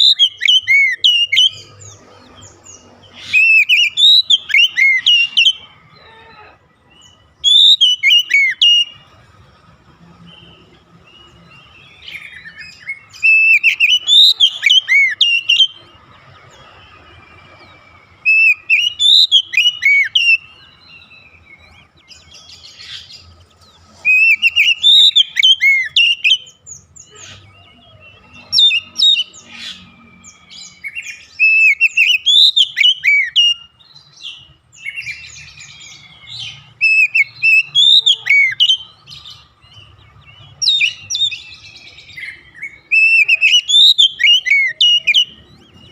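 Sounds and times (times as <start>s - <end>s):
bird singing whistled notes: 0.0s - 6.0s, 6.8s - 9.2s, 10.1s - 45.9s.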